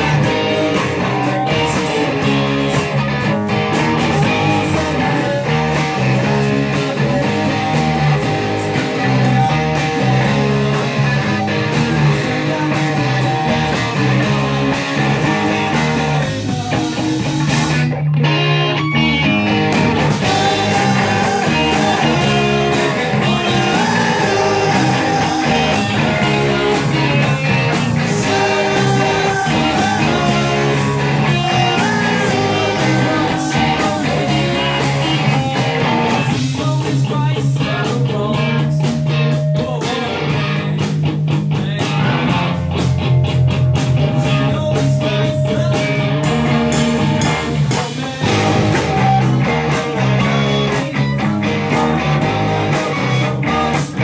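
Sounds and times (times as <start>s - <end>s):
person singing: 0.0s - 2.7s, 4.0s - 17.3s, 20.1s - 40.8s, 44.0s - 46.6s, 47.6s - 54.0s
live rock band playing: 0.0s - 54.0s.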